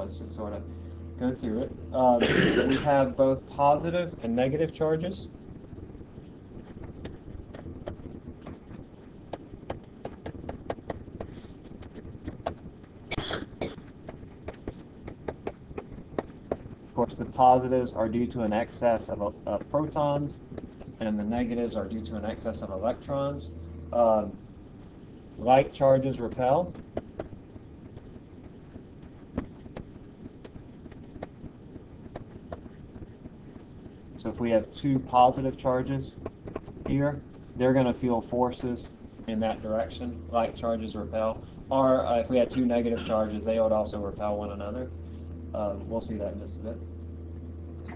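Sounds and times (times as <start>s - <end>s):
low room hum: 0.0s - 47.9s.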